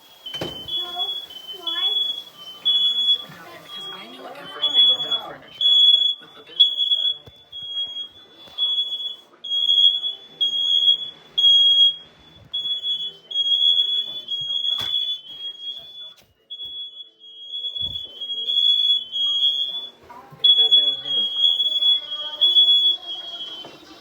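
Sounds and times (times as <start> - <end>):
smoke alarm beeping: 0.0 - 24.0.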